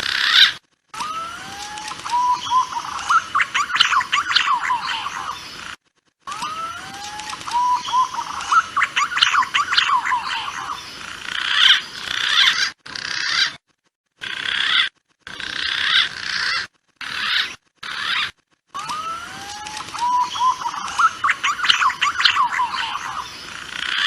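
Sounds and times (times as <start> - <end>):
pigeons calling with whistled notes: 0.2 - 5.7, 6.3 - 13.6, 15.6 - 24.0.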